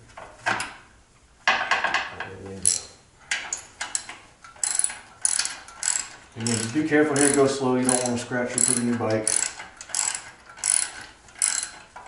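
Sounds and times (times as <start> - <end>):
metal clicking and scraping: 2.2 - 12.0.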